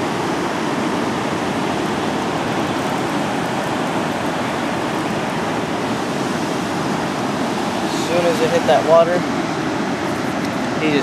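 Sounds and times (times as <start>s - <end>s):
water rushing from dam outflow: 0.0s - 11.0s.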